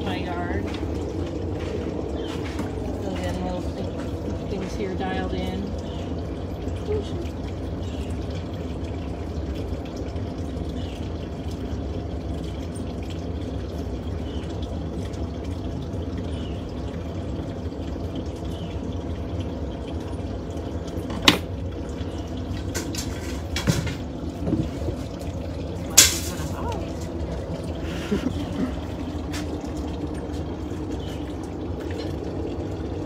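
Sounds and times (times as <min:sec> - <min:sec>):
furnace rushing and humming: 0:00.0 - 0:33.0.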